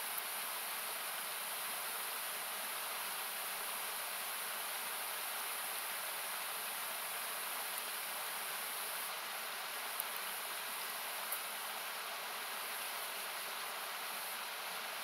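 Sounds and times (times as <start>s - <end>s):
campfire crackles: 0.0s - 15.0s
rushing river hiss: 0.0s - 15.0s.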